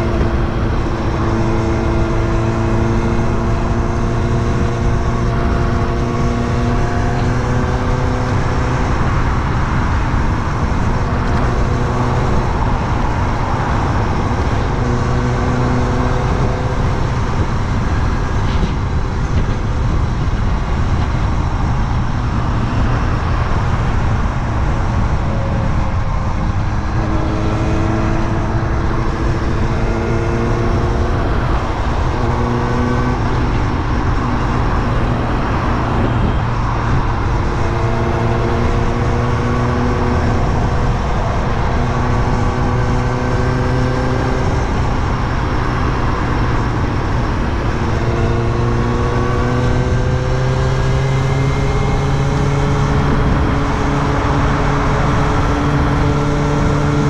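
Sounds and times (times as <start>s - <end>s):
motorcycle engine revving: 0.0s - 19.6s, 20.3s - 57.0s
wind rush: 0.0s - 57.0s.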